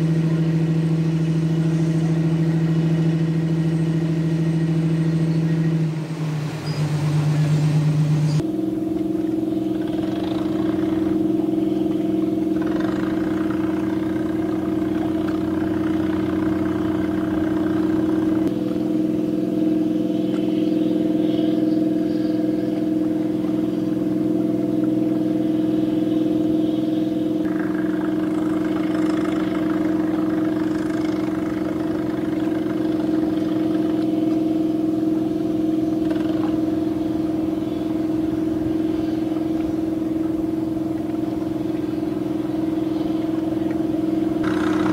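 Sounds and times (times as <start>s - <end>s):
diesel machinery drone: 0.0s - 44.9s
rough engine noise: 0.0s - 44.9s.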